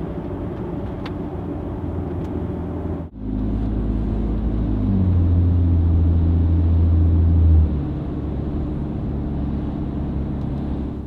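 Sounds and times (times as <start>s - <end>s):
truck engine deep exhaust drone: 0.0s - 11.0s.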